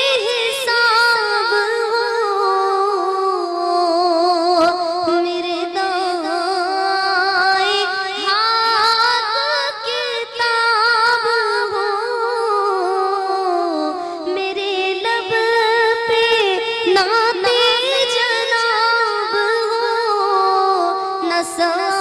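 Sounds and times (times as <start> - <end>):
woman singing into a microphone: 0.0 - 22.0.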